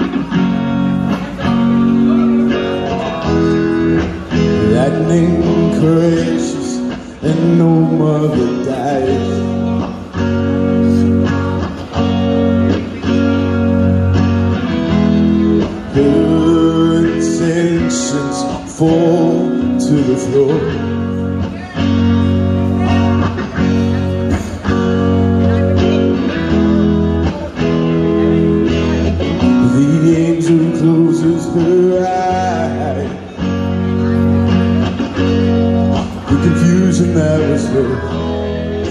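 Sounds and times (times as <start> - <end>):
guitar-led backing music: 0.0 - 38.9
man singing rock ballad: 0.0 - 38.9.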